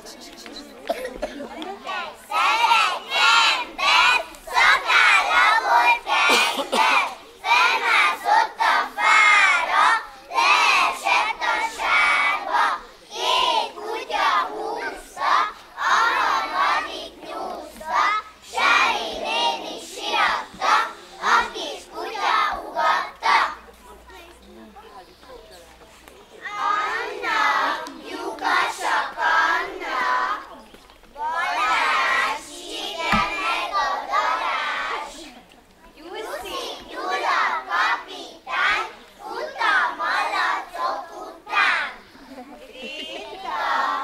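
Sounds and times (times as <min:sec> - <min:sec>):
children chanting a rhyme: 0:01.7 - 0:24.1, 0:26.4 - 0:35.4, 0:36.0 - 0:44.0.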